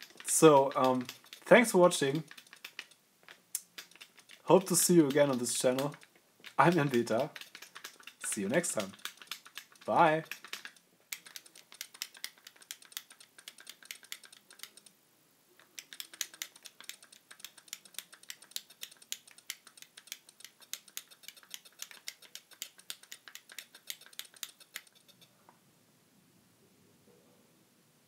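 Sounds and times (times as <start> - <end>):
sharp clicks: 0.0 - 14.9, 15.6 - 25.2.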